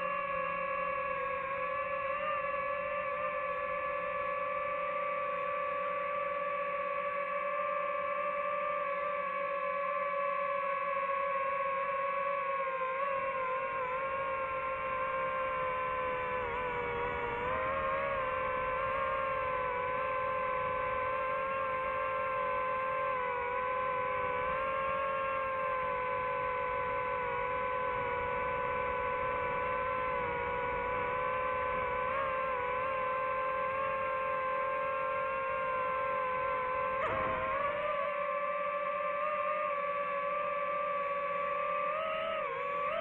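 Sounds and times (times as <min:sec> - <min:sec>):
drone propellers whining: 0:00.0 - 0:43.0.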